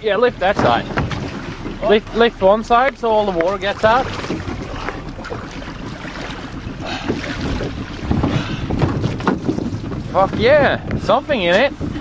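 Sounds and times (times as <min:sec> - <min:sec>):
crab pot knocking boat: 0:00.0 - 0:12.0
water sloshing and draining: 0:00.0 - 0:12.0
wind buffeting microphone: 0:00.0 - 0:12.0.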